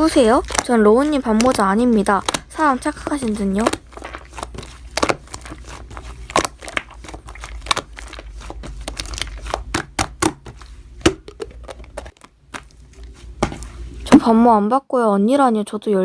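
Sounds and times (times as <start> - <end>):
slime popping and crackling: 0.0 - 13.6.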